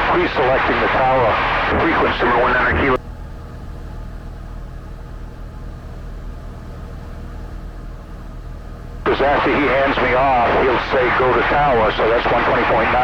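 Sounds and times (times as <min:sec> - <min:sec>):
airplane engine droning in cabin: 0:00.0 - 0:13.0.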